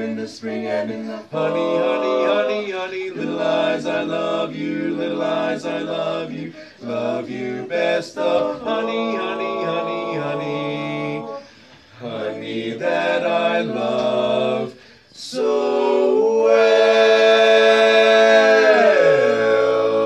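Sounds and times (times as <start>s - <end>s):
male vocal quartet singing: 0.0s - 20.0s.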